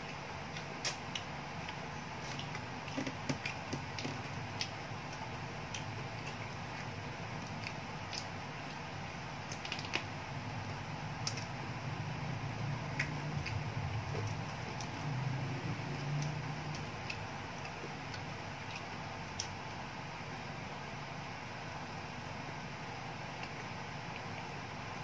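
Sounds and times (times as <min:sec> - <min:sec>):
crunching and chewing fried food: 0:00.0 - 0:25.0
steady low hum: 0:00.0 - 0:25.0.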